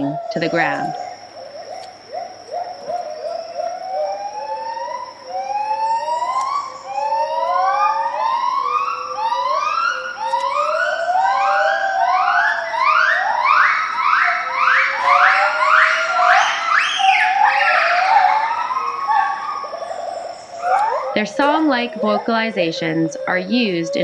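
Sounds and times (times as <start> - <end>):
gibbon whooping call: 0.0 - 24.0.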